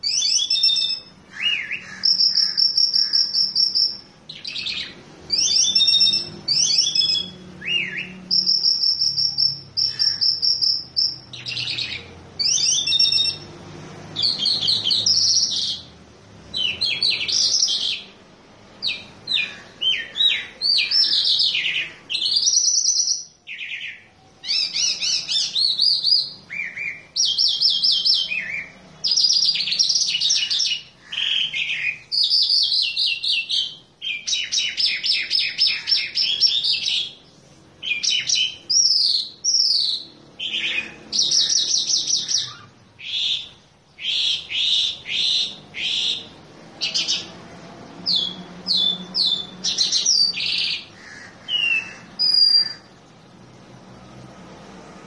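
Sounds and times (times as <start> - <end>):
lark singing trills and chirps: 0.0 - 18.2, 18.8 - 47.4, 48.0 - 52.9.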